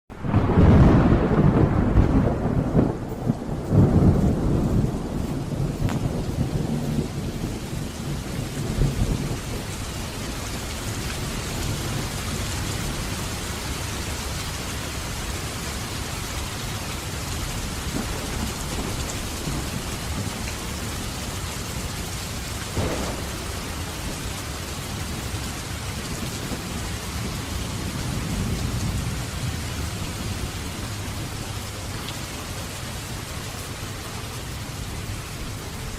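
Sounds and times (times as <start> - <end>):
heavy rain: 0.1 - 35.9
thunder rumbling: 0.1 - 35.9.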